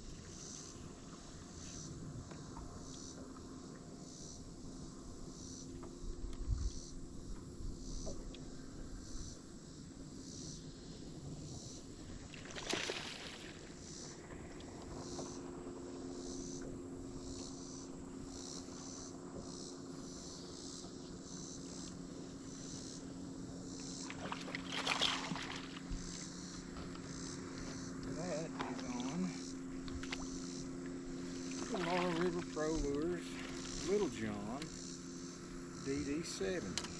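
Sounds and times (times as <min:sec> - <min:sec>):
electric boat motor humming: 0:00.0 - 0:36.9
insects chirring: 0:00.0 - 0:36.9.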